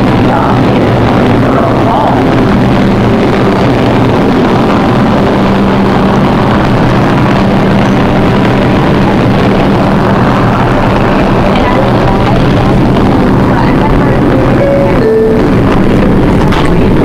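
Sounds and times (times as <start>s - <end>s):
subway train hum and rumble: 0.0s - 17.0s.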